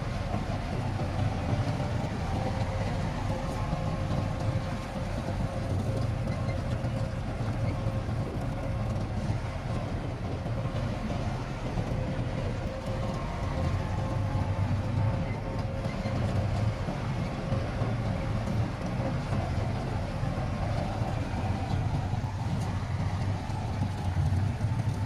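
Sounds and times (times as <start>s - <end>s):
diesel machinery rumbling: 0.0s - 25.0s.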